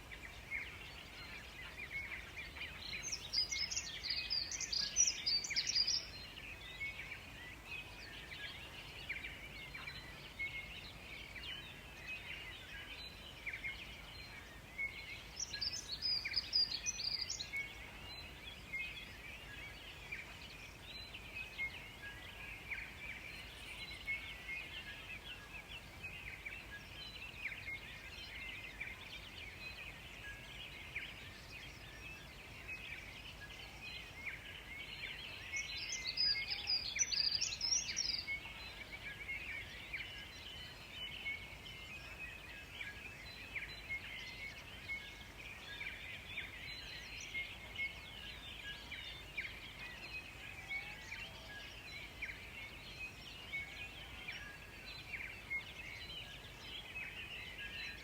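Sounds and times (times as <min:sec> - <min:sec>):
forest birds chirping: 0:00.0 - 0:58.0.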